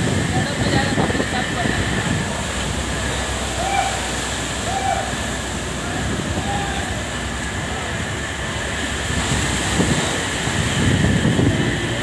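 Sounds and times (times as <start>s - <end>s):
waves: 0.0s - 12.0s
wind: 0.0s - 12.0s.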